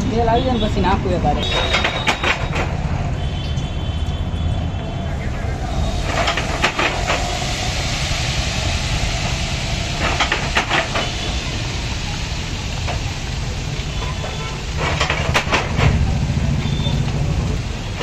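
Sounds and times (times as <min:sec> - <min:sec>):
hot oil sizzling: 0:01.9 - 0:18.0.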